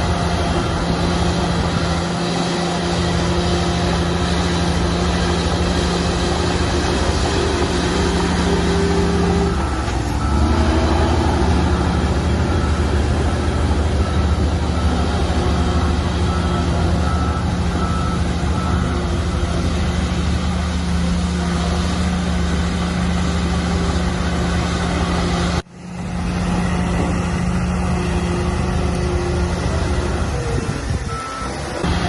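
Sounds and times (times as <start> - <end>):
diesel construction machinery running: 0.0 - 32.0.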